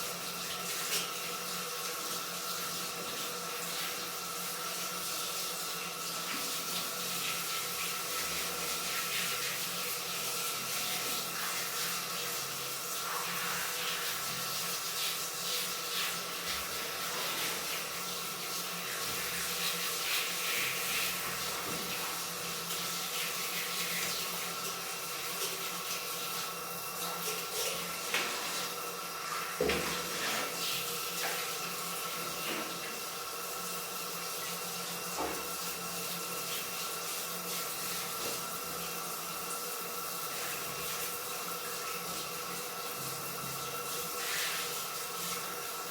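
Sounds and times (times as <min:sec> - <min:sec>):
water running from a tap: 0:00.0 - 0:45.9.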